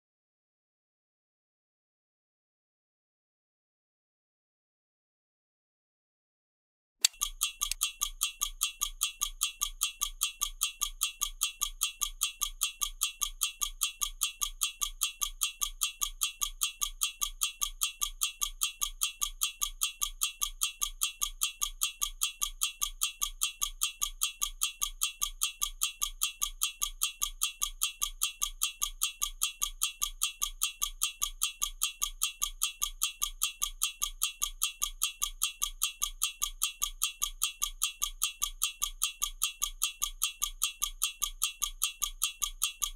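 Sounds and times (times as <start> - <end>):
stopwatch ticking: 7.0 - 42.9.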